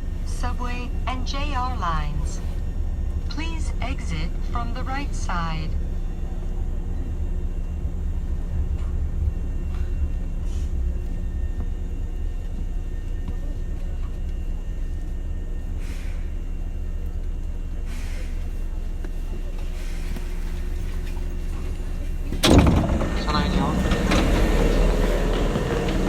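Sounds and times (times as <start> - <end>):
train rumble and hum: 0.0 - 26.0.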